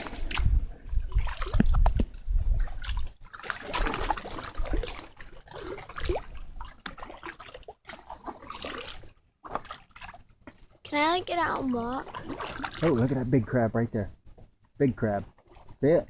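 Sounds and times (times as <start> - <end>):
paddle splashing water: 0.0 - 13.4, 15.0 - 15.9.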